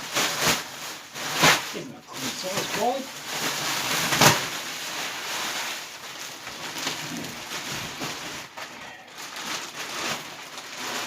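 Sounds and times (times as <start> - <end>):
thick plastic wrapping crinkling: 0.0 - 11.0.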